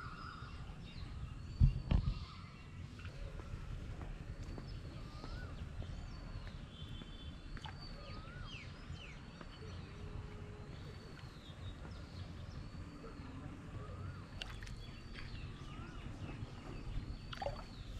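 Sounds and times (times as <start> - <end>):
birds whistled calls: 0.0 - 3.3, 4.8 - 17.9.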